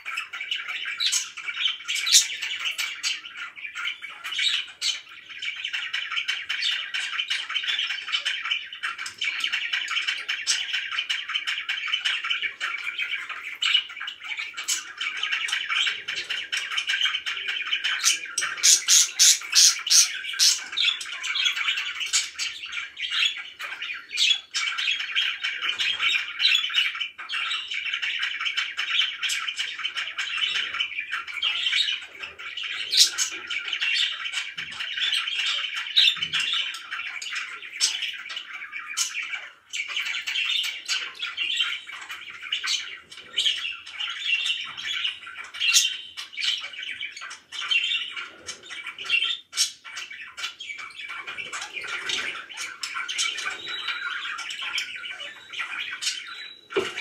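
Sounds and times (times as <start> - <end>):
budgerigars chattering: 0.0 - 57.0
sharp bird chirps and squawks: 0.0 - 57.0.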